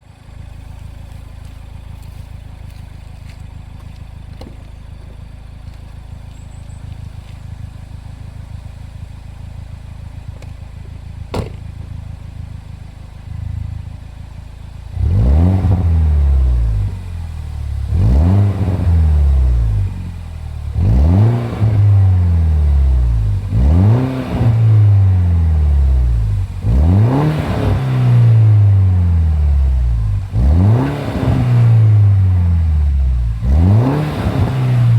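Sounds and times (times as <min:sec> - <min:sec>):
car engine idling: 0:00.0 - 0:34.9
exhaust burbles and crackles: 0:00.0 - 0:34.9
car engine revving: 0:00.4 - 0:34.9.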